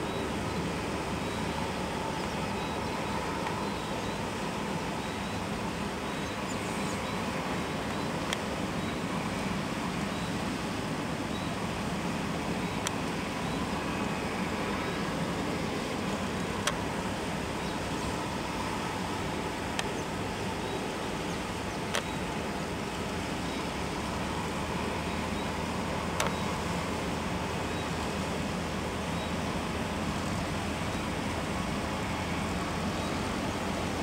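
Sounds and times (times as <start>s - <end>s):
distant jet engines rushing: 0.0s - 34.0s.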